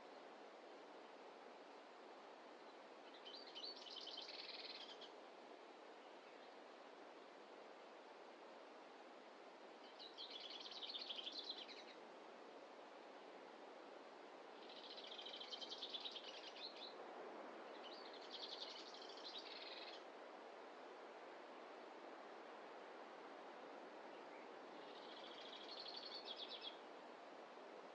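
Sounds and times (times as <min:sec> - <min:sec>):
forest ambience hiss: 0:00.0 - 0:27.9.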